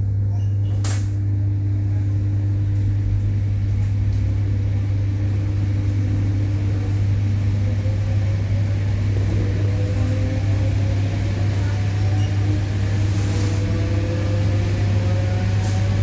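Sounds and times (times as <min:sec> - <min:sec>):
train electrical hum: 0:00.0 - 0:16.0.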